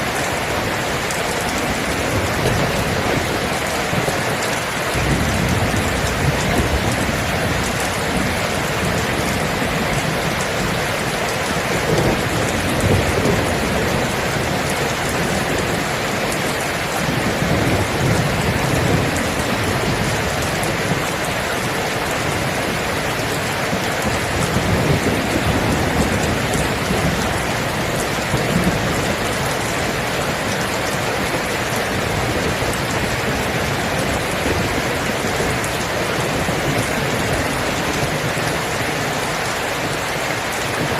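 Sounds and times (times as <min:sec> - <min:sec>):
heavy rain: 0:00.0 - 0:40.9
thunder rumbles: 0:00.3 - 0:40.9.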